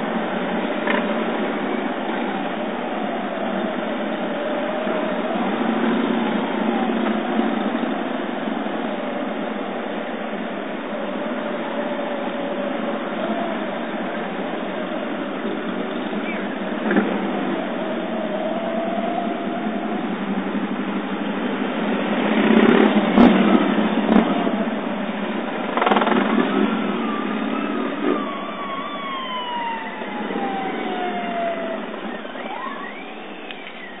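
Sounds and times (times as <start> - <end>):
police motorcycles riding past: 0.0 - 34.0
traffic: 0.0 - 34.0.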